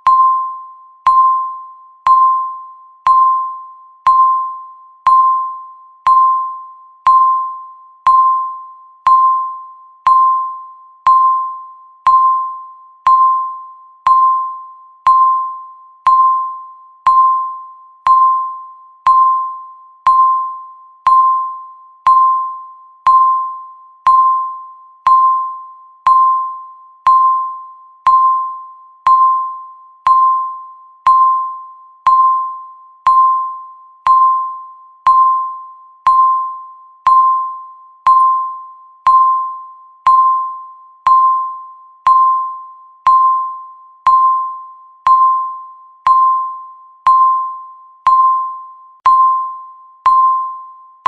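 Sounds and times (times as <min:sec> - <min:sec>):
timer beeping: 0:00.0 - 0:51.0.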